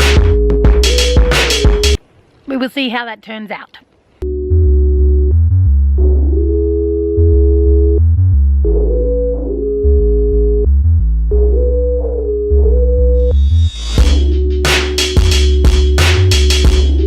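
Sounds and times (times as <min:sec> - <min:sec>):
synthesizer music with bass line: 0:00.0 - 0:02.0, 0:04.2 - 0:17.0.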